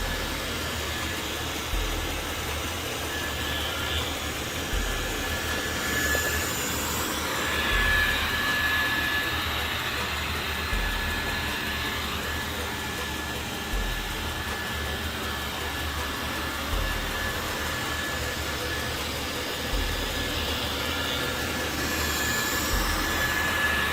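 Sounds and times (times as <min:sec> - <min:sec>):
low pulse: 0:00.0 - 0:23.9
robot vacuum motor and suction: 0:00.0 - 0:23.9
thin high whine: 0:00.0 - 0:23.9.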